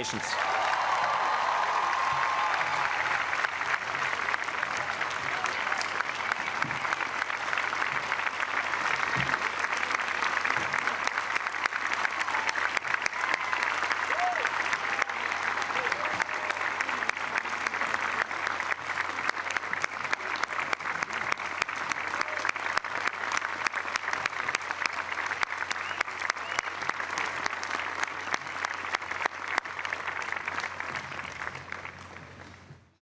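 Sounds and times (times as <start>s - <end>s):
crowd applauding: 0.0s - 32.8s.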